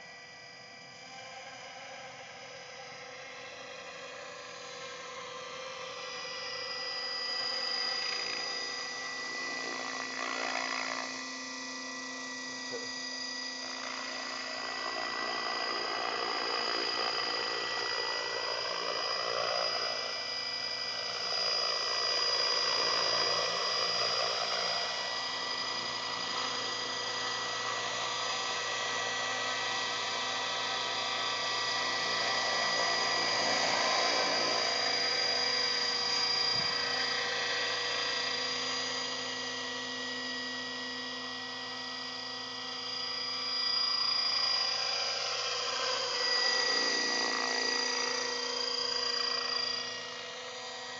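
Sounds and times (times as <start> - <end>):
model helicopter motor whine: 0.0 - 50.9
rotor whirring: 5.7 - 41.0, 41.9 - 50.8.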